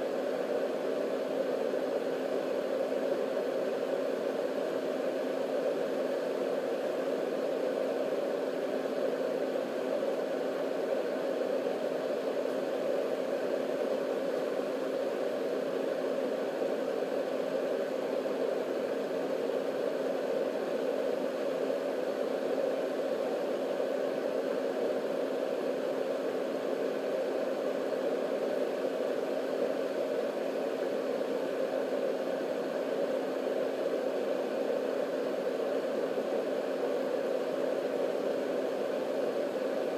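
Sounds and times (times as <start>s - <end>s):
fan rush of air: 0.0s - 39.9s.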